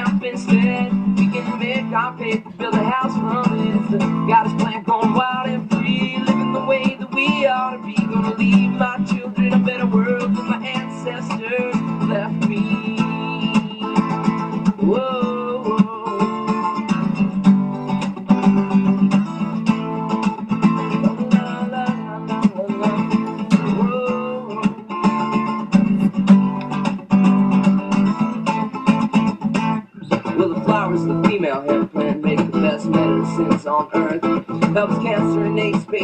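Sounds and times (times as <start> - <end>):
acoustic guitar music: 0.0 - 36.0.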